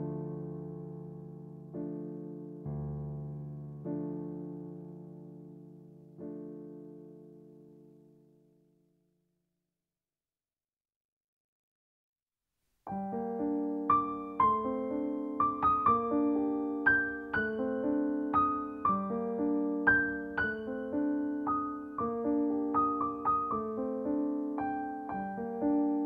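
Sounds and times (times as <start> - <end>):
electric piano melody: 0.0 - 8.7, 12.9 - 26.0.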